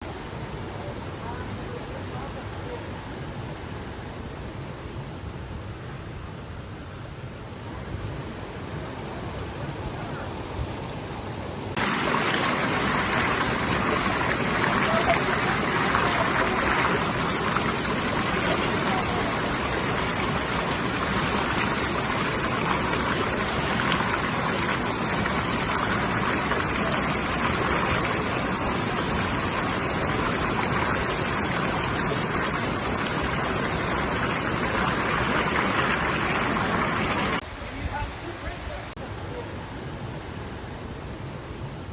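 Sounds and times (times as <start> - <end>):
waterfall rushing and splashing: 0.0 - 6.2, 7.5 - 41.9.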